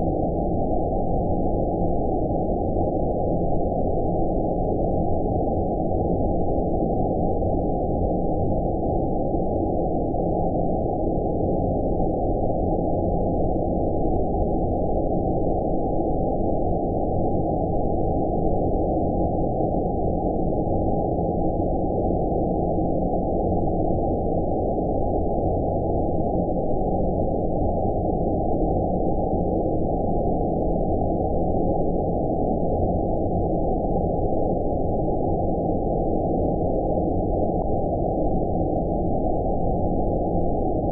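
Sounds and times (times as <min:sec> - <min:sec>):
low rumbling filtered noise: 0:00.0 - 0:40.9.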